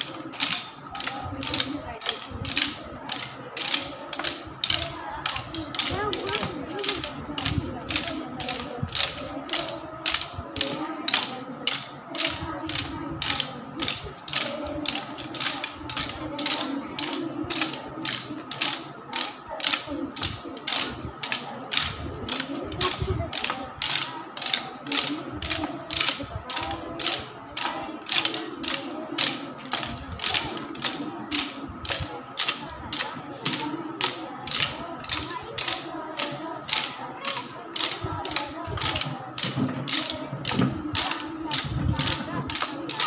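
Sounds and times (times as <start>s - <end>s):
sticks clacking together: 0.0s - 43.0s.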